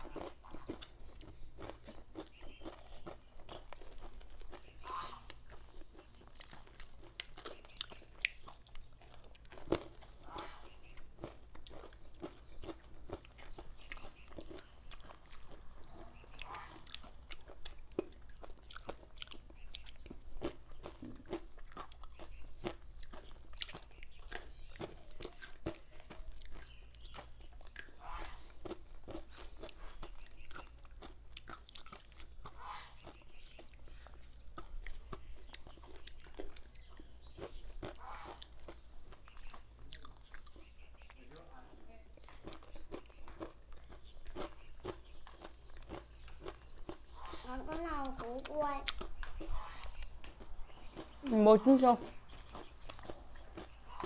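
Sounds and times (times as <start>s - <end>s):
crunchy chewing: 0.0s - 54.0s.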